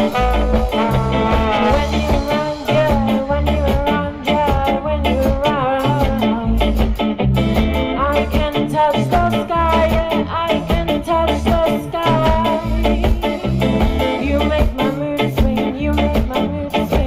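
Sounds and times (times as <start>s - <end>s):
live band playing upbeat song: 0.0s - 17.0s.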